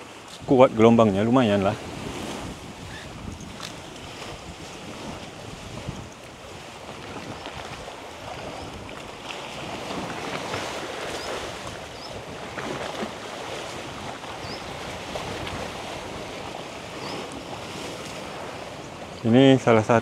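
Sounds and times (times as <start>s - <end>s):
sea waves splashing on shore: 0.0s - 20.0s
wind buffeting microphone: 0.0s - 20.0s.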